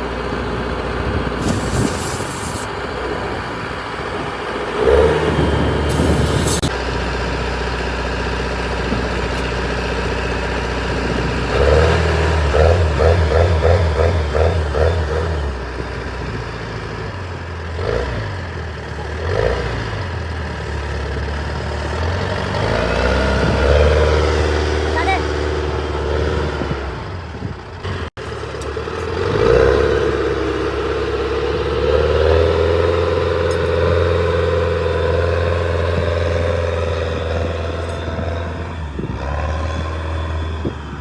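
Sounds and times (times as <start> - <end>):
heavy machine engine revving: 0.0 - 41.0.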